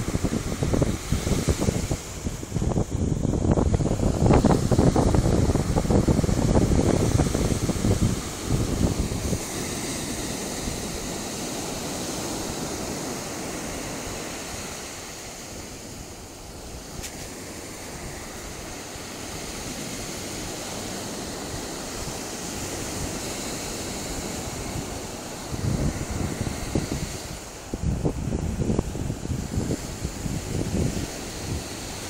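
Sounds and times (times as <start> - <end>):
small waves breaking: 0.0 - 32.0.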